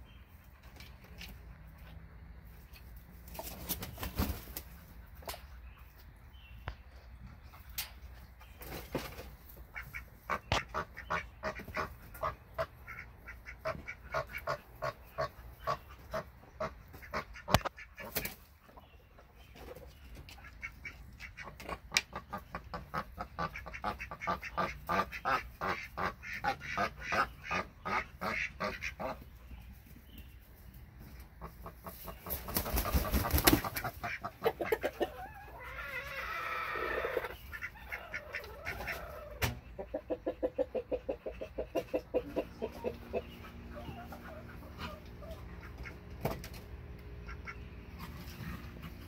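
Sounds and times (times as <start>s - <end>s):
chickens clucking: 0.0s - 49.0s.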